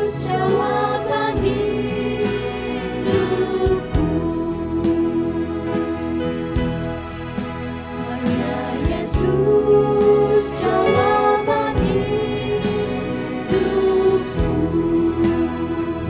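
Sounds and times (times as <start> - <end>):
vocal group singing in harmony: 0.0 - 6.8, 7.6 - 16.0
instrumental accompaniment: 0.0 - 16.0.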